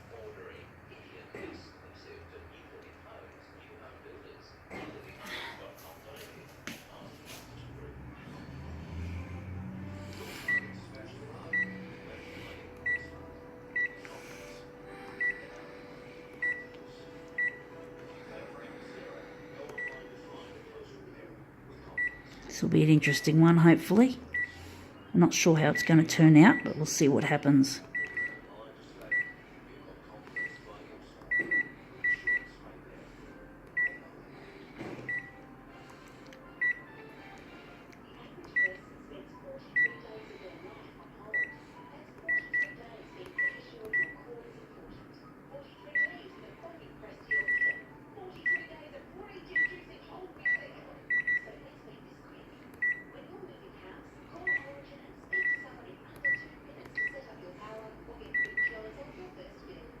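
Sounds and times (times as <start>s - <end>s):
photocopier hum: 0.0s - 60.0s.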